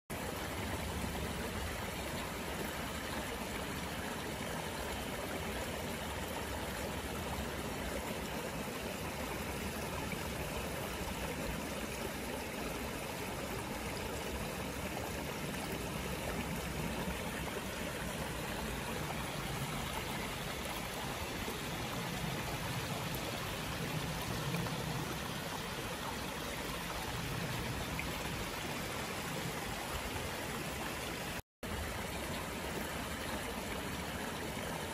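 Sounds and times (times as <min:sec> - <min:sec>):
flowing water: 0:00.1 - 0:34.9.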